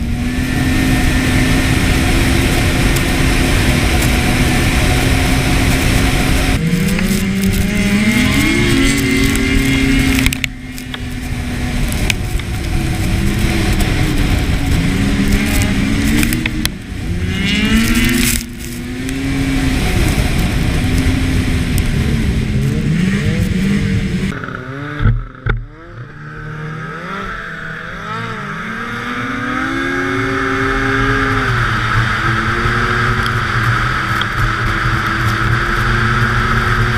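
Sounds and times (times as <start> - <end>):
constant rushing noise: 0.0 - 36.9
snowmobile engine revving: 0.0 - 36.9.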